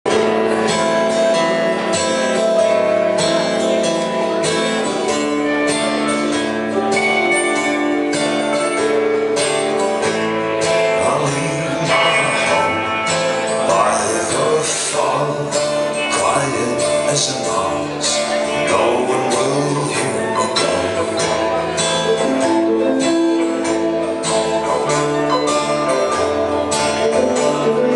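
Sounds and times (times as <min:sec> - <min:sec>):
folk band playing: 0:00.1 - 0:27.9
strumming and plucking: 0:00.1 - 0:27.9.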